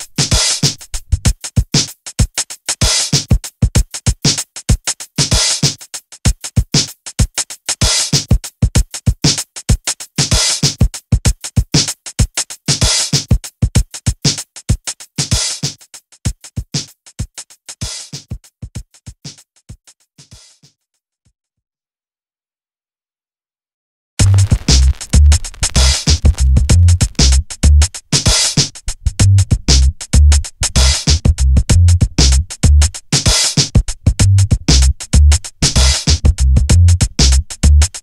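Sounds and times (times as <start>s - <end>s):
drum machine beat: 0.0s - 20.8s, 24.2s - 38.0s.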